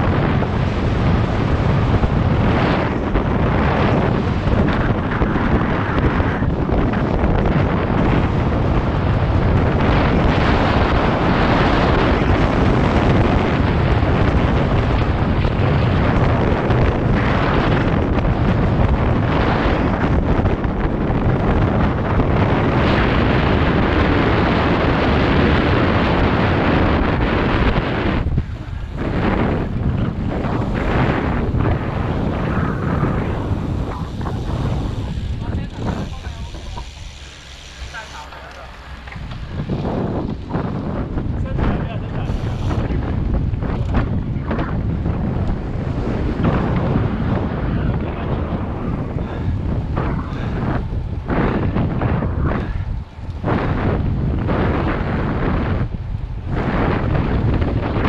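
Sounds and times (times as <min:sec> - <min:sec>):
loud wind noise on microphone: 0:00.0 - 0:58.0.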